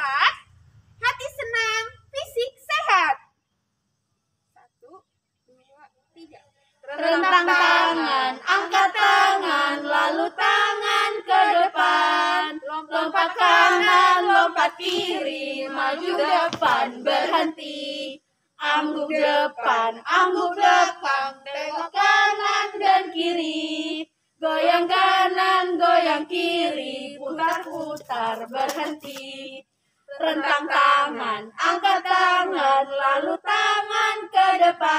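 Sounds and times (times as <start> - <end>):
women singing in unison: 6.8 - 34.9.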